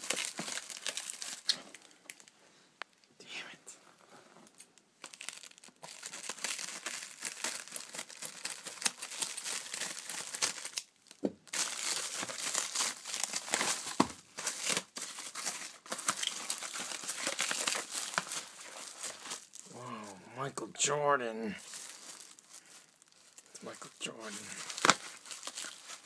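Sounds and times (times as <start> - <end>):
plastic wrapping crinkling and tearing: 0.0 - 2.4, 4.4 - 26.0.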